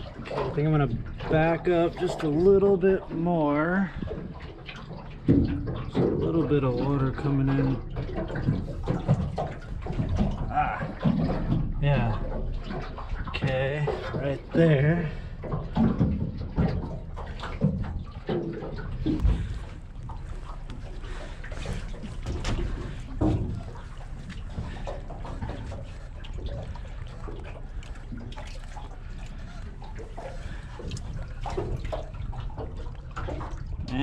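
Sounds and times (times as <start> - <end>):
low steady rumble: 0.0 - 34.0
water sloshing around boat hull: 0.0 - 34.0.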